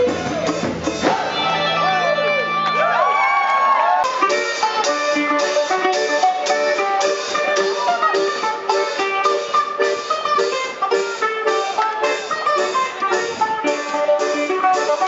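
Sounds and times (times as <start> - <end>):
live band playing upbeat music: 0.0 - 15.0.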